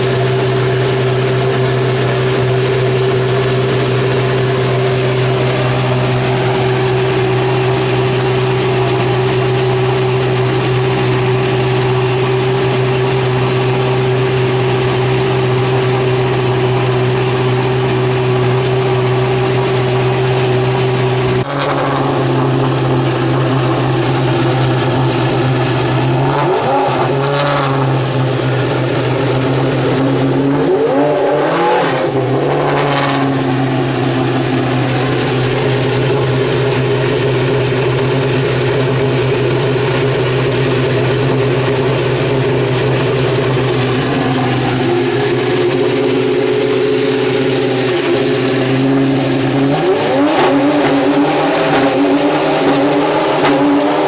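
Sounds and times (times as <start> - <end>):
car accelerating hard: 0.0 - 37.3, 43.7 - 54.0
racing car engine drone: 0.0 - 54.0.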